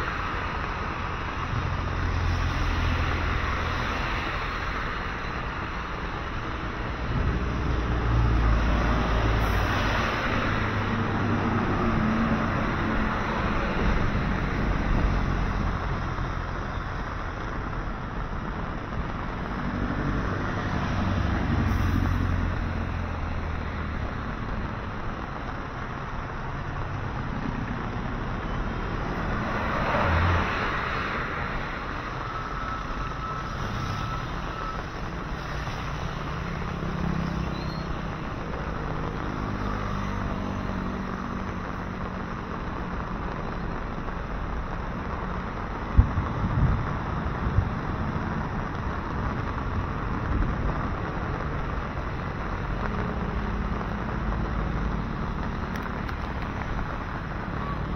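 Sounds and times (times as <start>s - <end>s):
steady road hiss: 0.0s - 57.9s
vehicles passing by: 0.0s - 57.9s.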